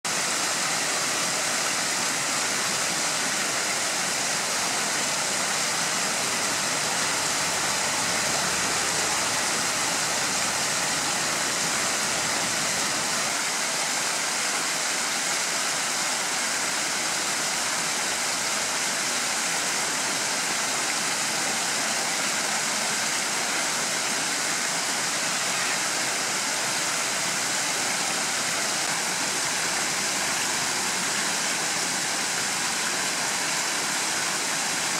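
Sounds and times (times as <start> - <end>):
flowing stream water: 0.0 - 34.9.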